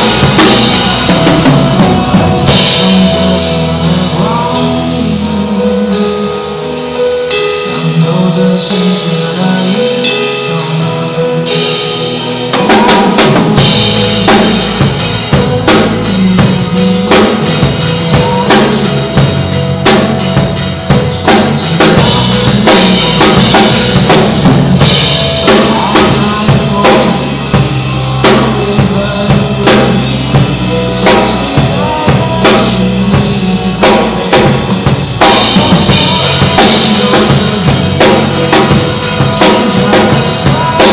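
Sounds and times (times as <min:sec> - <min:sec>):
drum kit playing: 0:00.0 - 0:40.9
pop backing track: 0:00.0 - 0:40.9.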